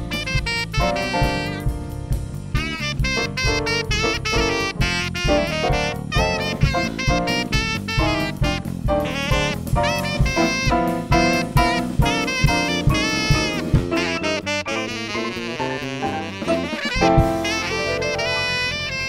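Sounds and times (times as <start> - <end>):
live band with drum kit: 0.0 - 19.0
tenor saxophone jazz melody: 0.0 - 19.0.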